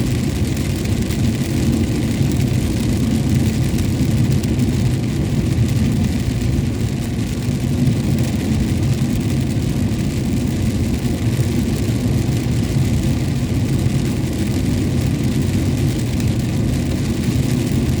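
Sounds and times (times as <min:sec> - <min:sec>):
rain hissing on wet road: 0:00.0 - 0:18.0
vehicle engine and road rumble: 0:00.0 - 0:18.0.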